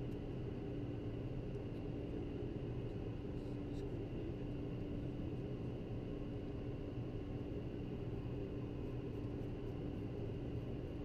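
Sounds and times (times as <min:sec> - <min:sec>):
low jet engine hum: 0:00.0 - 0:11.0.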